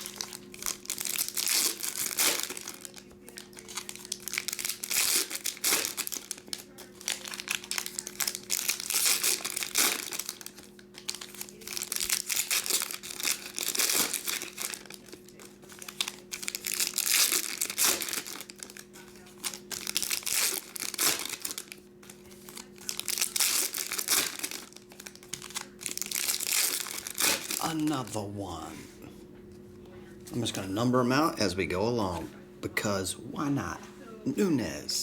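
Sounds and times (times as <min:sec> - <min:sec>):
card wrappers crinkling: 0:00.0 - 0:28.7
faint steady hum: 0:00.0 - 0:35.0.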